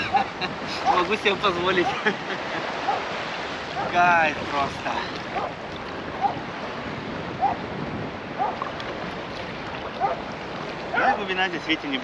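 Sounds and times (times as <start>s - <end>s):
shallow water lapping: 0.0s - 12.0s
wind on microphone: 0.0s - 12.0s.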